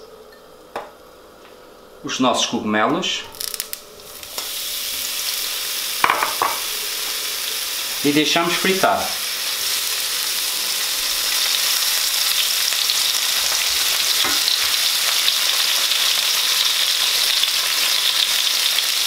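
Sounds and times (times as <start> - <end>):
mushrooms sizzling in frying pan: 3.3 - 19.0.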